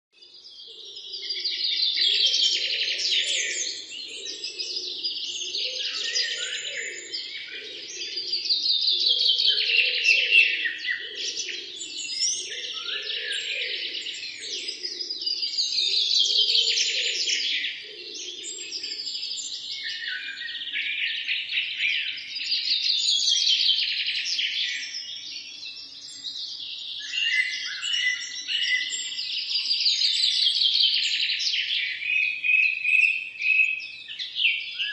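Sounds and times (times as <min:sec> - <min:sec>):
birds chirping and singing: 0:00.2 - 0:34.9.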